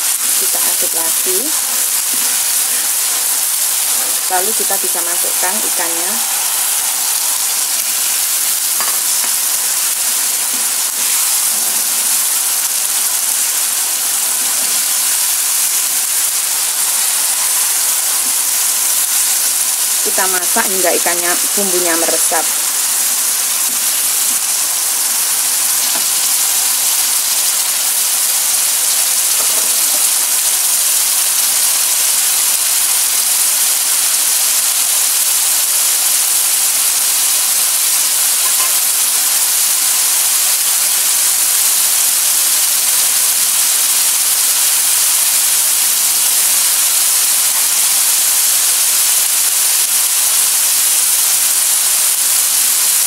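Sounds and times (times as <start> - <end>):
sauce sizzling and bubbling in a wok: 0.0 - 53.0.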